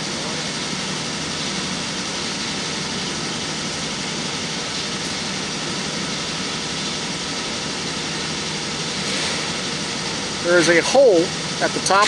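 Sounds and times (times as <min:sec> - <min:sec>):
warehouse background hum and hiss: 0:00.0 - 0:12.0.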